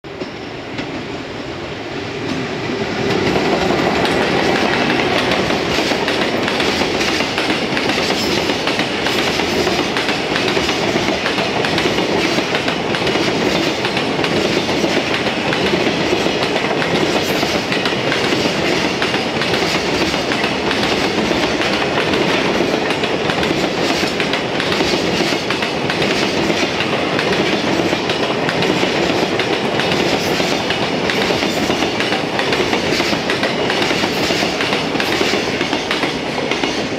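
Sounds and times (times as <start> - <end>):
freight train wheels clattering: 2.2 - 36.9.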